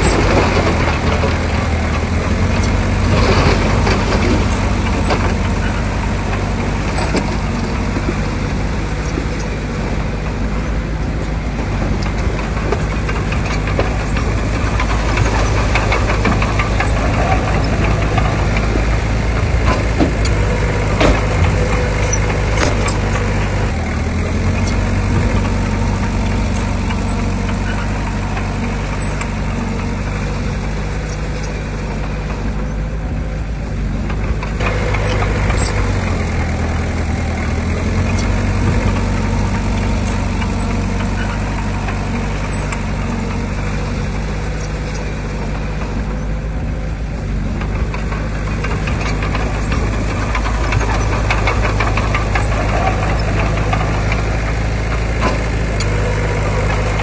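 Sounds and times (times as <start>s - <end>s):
faint clatter: 0.0s - 57.0s
heavy machinery diesel engine: 0.0s - 57.0s.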